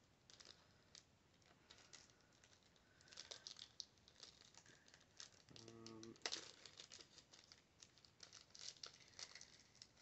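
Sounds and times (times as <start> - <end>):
faint paper wrapper crinkling: 0.0 - 10.0.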